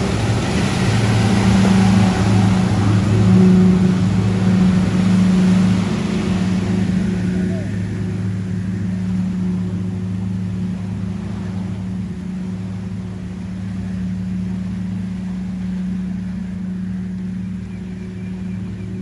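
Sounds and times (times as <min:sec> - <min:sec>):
boat engine running: 0:00.0 - 0:19.0
churning wake water: 0:00.0 - 0:19.0.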